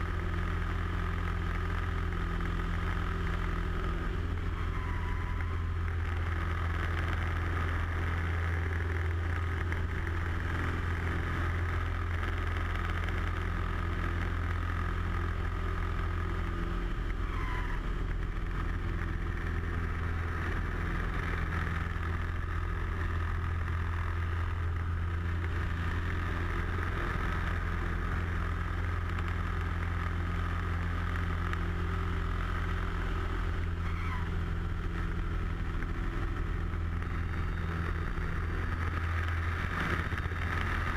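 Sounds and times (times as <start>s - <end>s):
airplane engine and propeller droning: 0.0s - 40.9s.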